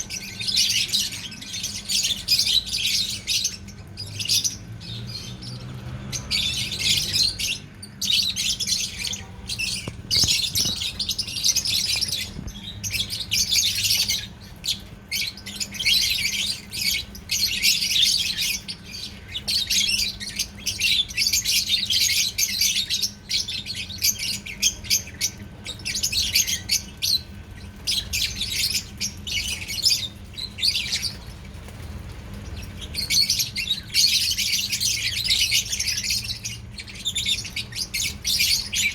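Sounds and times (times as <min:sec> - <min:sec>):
lovebirds chirping and squawking: 0:00.0 - 0:38.9.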